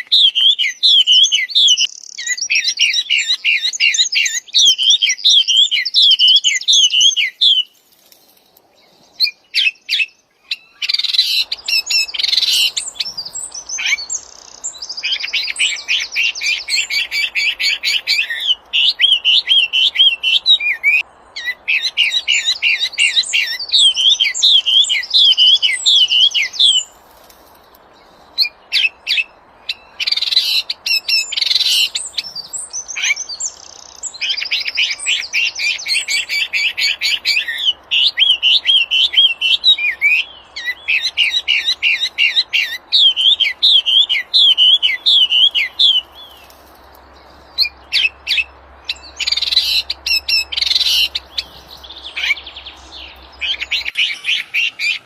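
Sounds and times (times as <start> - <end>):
songbird singing whistled runs: 0.0 - 27.0, 28.1 - 55.0.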